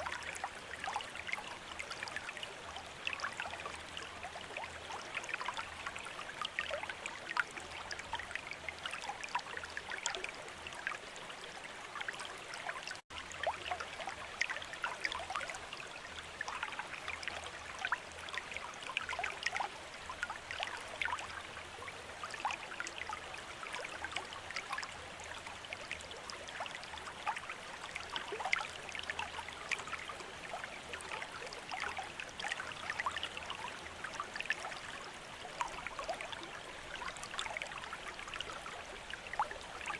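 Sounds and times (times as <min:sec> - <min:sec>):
fountain trickling into water: 0:00.0 - 0:39.9.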